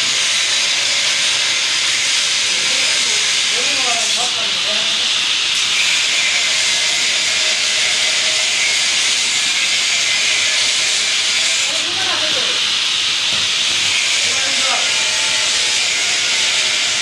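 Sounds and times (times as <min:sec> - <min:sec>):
loud steady hiss: 0:00.0 - 0:17.0.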